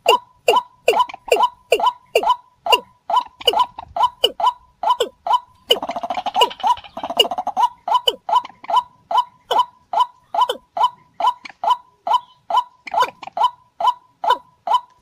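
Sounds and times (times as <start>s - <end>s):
faint steady tone: 0.0s - 15.0s
rails calling: 0.0s - 15.0s
rapid bird chattering: 0.0s - 15.0s.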